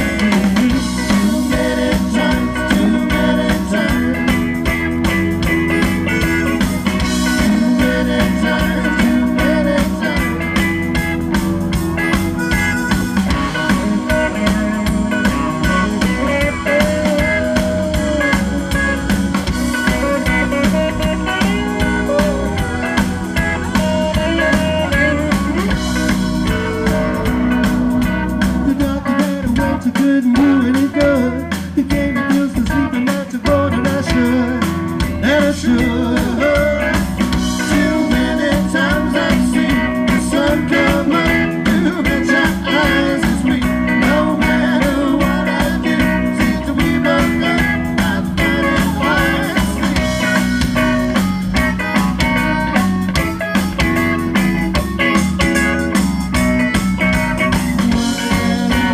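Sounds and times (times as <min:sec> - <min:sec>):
rock band playing live: 0:00.0 - 0:58.9.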